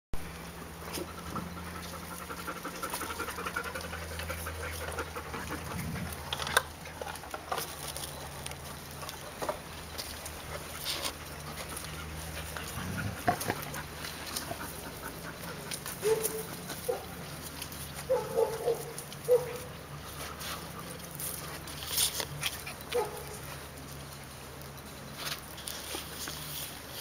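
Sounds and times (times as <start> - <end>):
puppies scuffling in sand: 0.2 - 27.0
puppies panting: 0.4 - 27.0.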